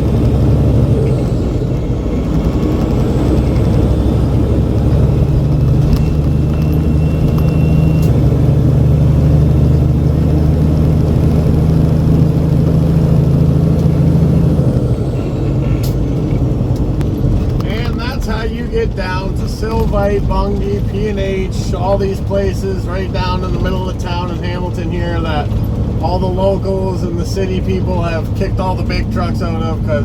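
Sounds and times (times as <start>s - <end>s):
truck diesel engine droning: 0.0s - 30.0s.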